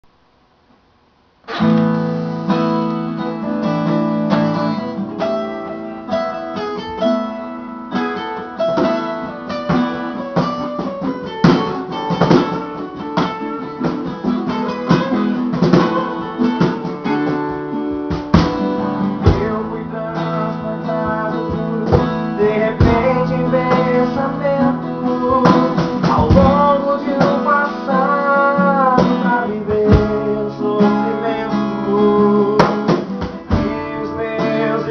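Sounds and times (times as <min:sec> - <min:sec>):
gospel hymn with strummed guitar: 0:01.5 - 0:34.9.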